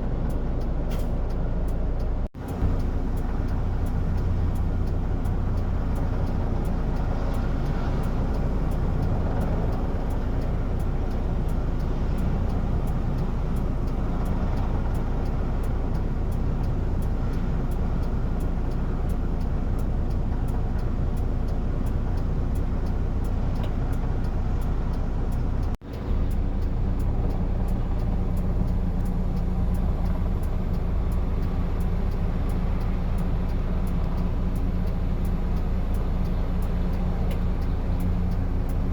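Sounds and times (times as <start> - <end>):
low engine rumble: 0.0 - 38.9.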